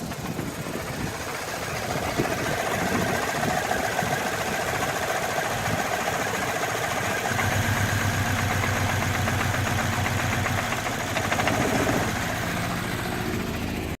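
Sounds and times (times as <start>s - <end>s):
car engine idling roughly: 0.0s - 14.0s.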